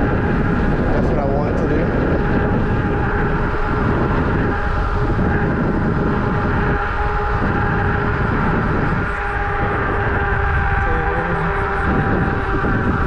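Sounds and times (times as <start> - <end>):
faint steady whine: 0.0 - 13.0
wind buffeting microphone: 0.0 - 13.0.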